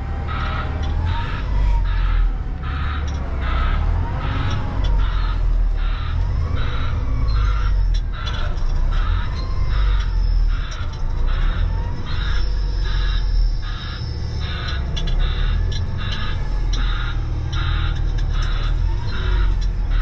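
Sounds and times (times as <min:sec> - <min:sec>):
diesel truck engine rumble: 0:00.0 - 0:20.0
reversing alarm beeping: 0:00.0 - 0:20.0.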